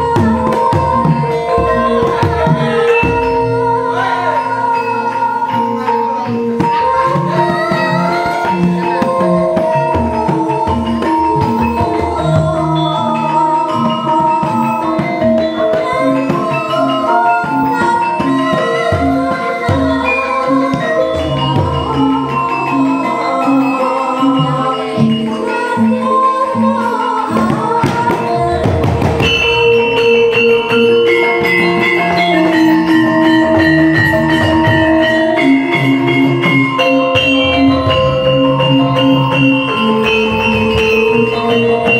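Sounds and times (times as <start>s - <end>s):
metallophones and gong-chimes ringing: 0.0s - 41.9s.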